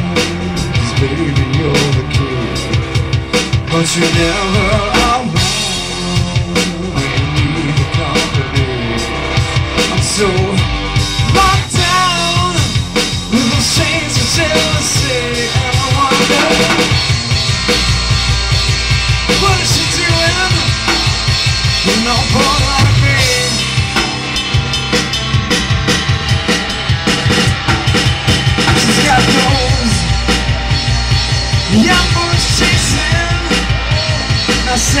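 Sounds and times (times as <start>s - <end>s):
drum kit beat: 0.0s - 35.0s
electric guitars: 0.0s - 35.0s.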